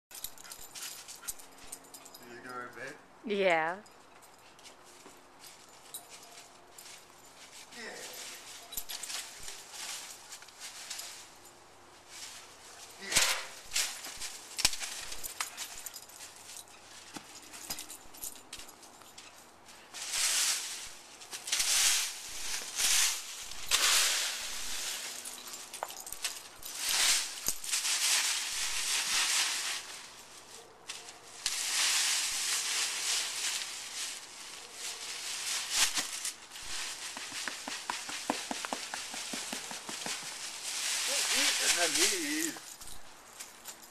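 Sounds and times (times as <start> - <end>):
dry leaves rustling and crunching: 5.4 - 17.6, 19.7 - 43.9.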